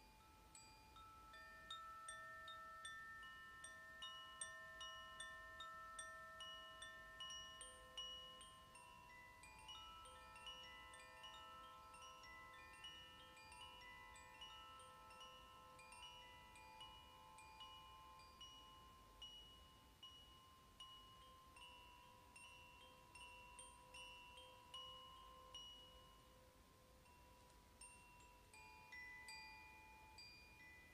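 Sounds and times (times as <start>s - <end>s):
wind chime ringing: 0.0s - 30.9s.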